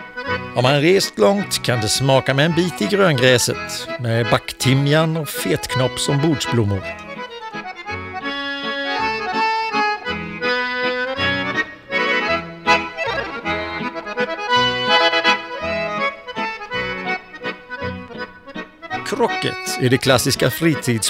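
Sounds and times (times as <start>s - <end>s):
accordion music: 0.0s - 21.0s.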